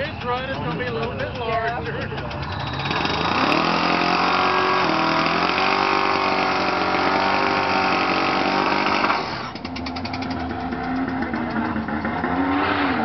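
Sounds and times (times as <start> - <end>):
engine revving high: 2.3 - 13.0.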